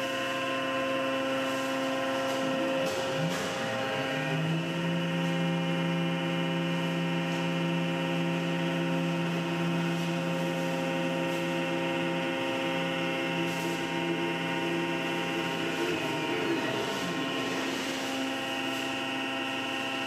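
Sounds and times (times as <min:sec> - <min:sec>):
milling spindle whining: 0:00.5 - 0:20.0.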